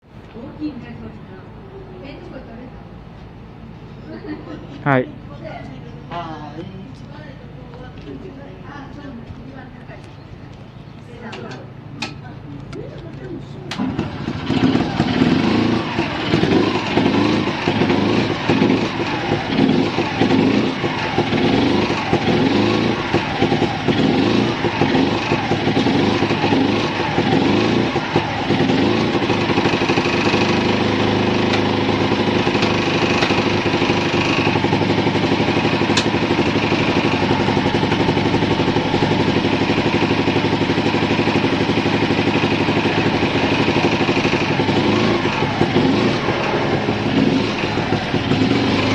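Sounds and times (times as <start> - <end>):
scooter engine revving and idling: 0.0 - 48.9.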